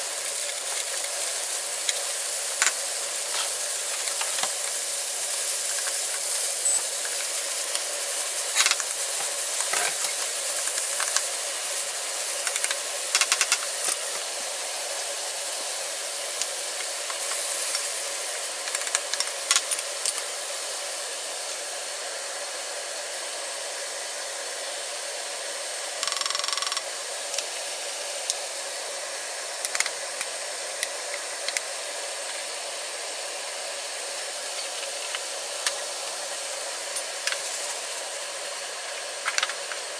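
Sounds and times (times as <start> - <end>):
food frying in a pan: 0.0 - 39.9.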